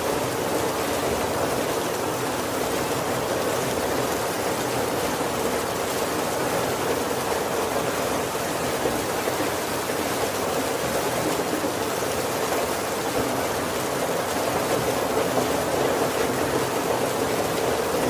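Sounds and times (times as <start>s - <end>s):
heavy rain on a wooden roof: 0.0s - 18.0s.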